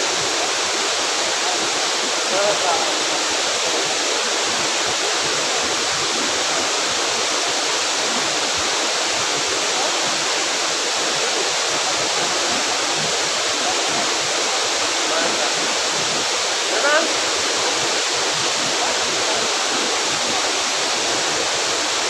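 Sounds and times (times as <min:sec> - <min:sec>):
waterfall crashing: 0:00.0 - 0:22.0.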